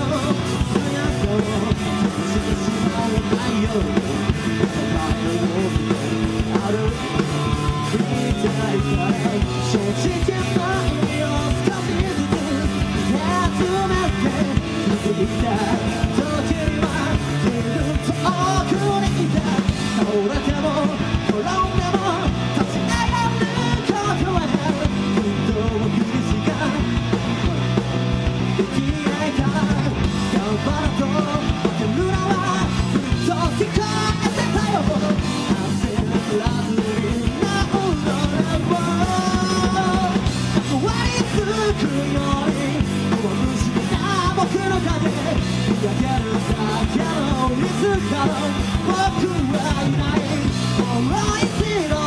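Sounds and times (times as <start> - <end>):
bass guitar: 0.0 - 52.0
drums: 0.0 - 52.0
electric guitars: 0.0 - 52.0
person singing into a microphone: 0.0 - 52.0.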